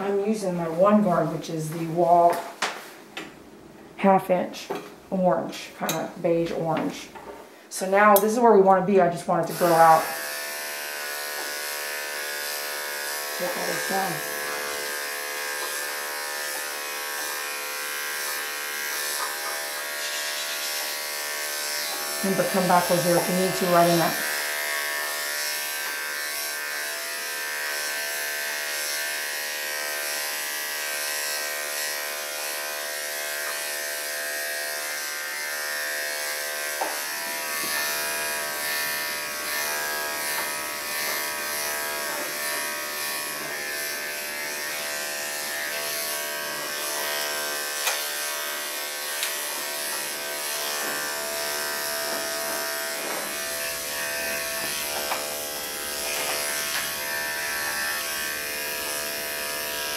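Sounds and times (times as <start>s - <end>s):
electric clippers buzzing: 9.2s - 59.9s.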